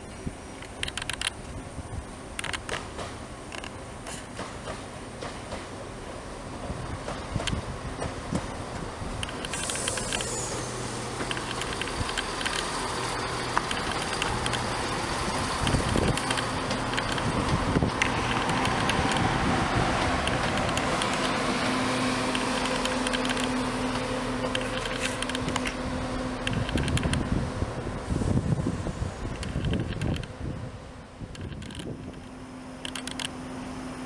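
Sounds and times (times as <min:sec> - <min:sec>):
train diesel engines humming: 0:00.0 - 0:34.0.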